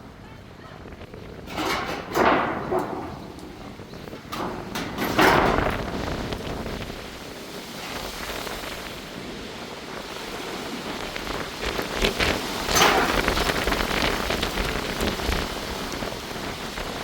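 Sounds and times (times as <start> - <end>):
wind gusts buffeting microphone: 0.0 - 17.0.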